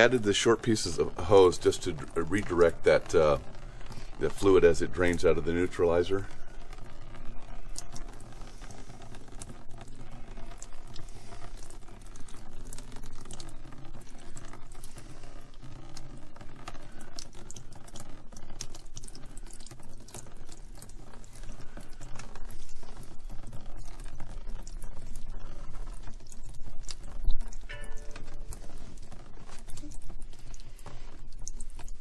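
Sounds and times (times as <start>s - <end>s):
low steady hum: 0.0s - 32.0s
water dripping into plastic tub: 0.0s - 32.0s.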